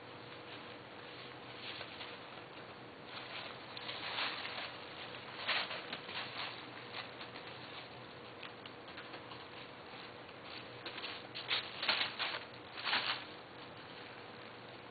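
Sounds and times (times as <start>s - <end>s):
kittens crinkling paper: 0.3s - 14.2s.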